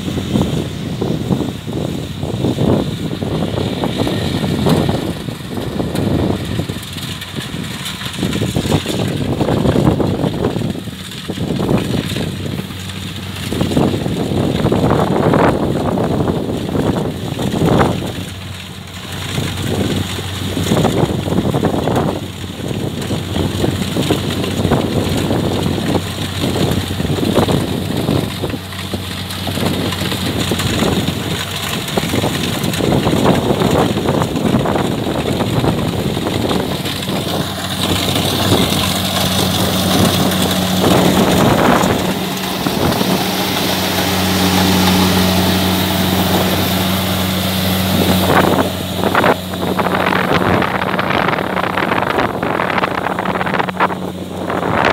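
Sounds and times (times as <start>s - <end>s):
combine harvester diesel drone: 0.0s - 54.9s.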